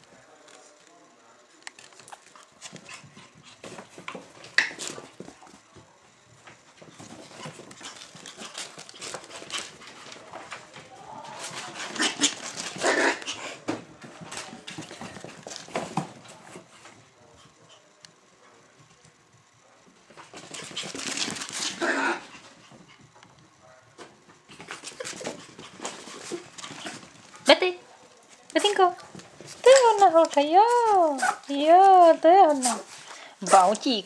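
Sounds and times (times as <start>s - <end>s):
puppies scuffling and scratching: 1.6s - 34.0s.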